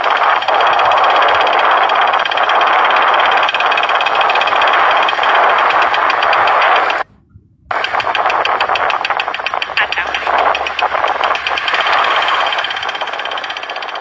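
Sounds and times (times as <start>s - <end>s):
rapid mechanical ticking: 0.0s - 7.1s, 7.7s - 14.0s
wind and road noise: 0.0s - 14.0s.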